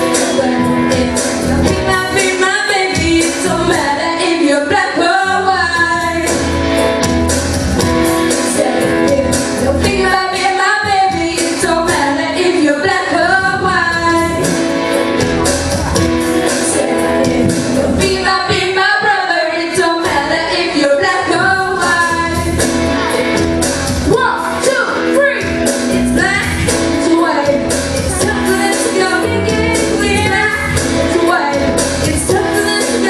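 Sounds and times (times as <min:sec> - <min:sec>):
girl and boy singing pop duet: 0:00.0 - 0:06.5, 0:08.2 - 0:14.6, 0:15.7 - 0:23.4, 0:24.0 - 0:33.0
recorded backing track: 0:00.0 - 0:33.0.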